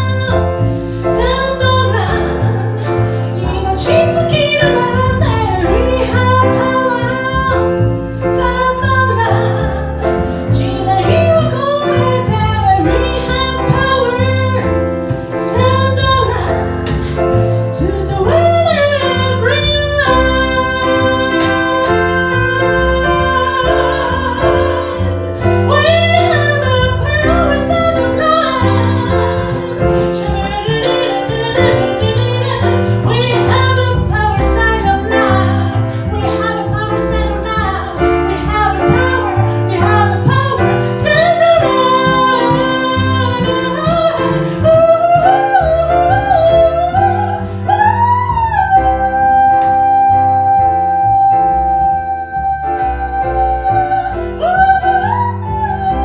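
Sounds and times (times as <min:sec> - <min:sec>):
jazz piano and bass: 0:00.0 - 0:56.0
woman singing: 0:00.0 - 0:56.0.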